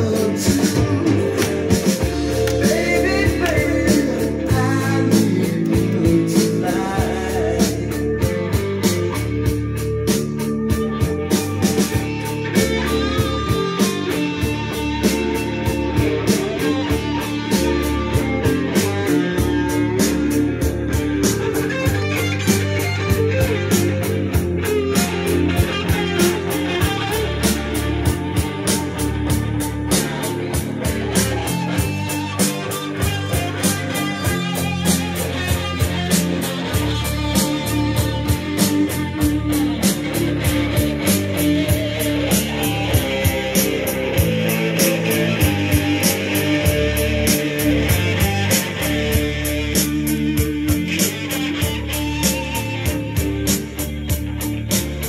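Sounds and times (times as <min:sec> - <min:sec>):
rock music with guitar: 0:00.0 - 0:55.0.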